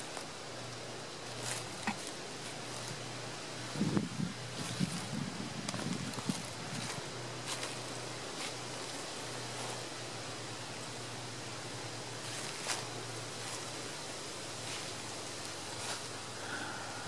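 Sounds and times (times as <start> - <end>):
footsteps in dry leaves: 0.0 - 16.8
steady hiss: 0.0 - 17.0.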